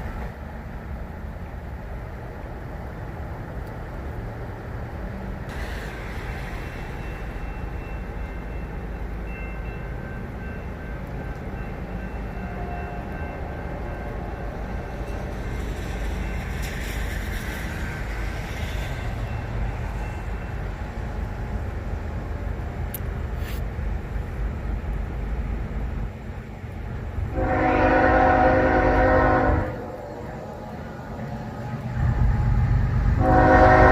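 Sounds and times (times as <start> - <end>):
train rattling: 0.0 - 33.9
train rumbling past: 0.0 - 33.9.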